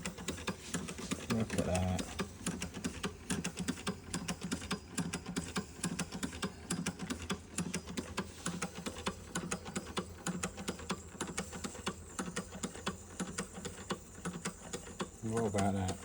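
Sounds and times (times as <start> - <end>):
steam engine ticking and thumping: 0.0 - 16.0.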